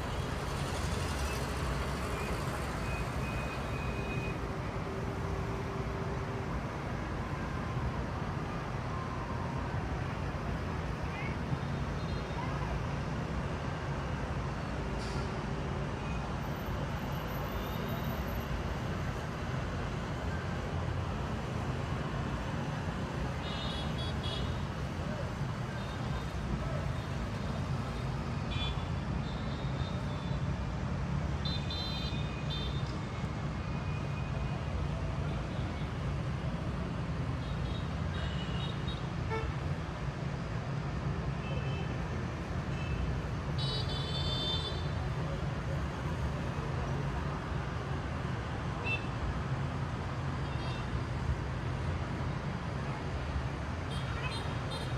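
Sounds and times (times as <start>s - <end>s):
city traffic rumble: 0.0s - 54.9s.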